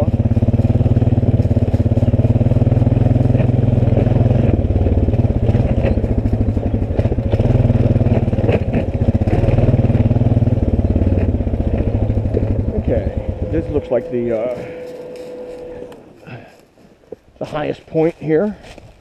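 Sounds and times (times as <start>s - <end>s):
knocks and rattles: 0.0s - 16.1s
atv engine running: 0.0s - 16.8s.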